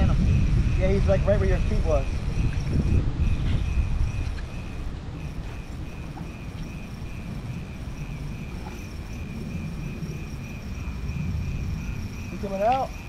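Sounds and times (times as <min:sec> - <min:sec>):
high-pitched insect trill: 0:00.0 - 0:13.0
low rumble: 0:00.0 - 0:13.0.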